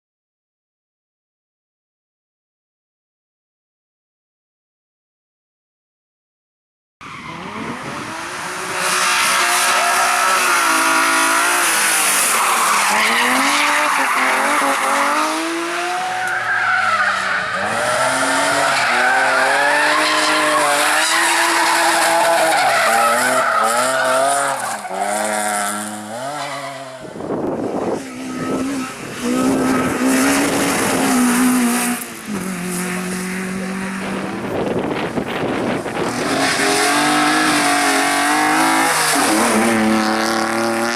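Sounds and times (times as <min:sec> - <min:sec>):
race car engines revving: 0:07.1 - 0:40.9.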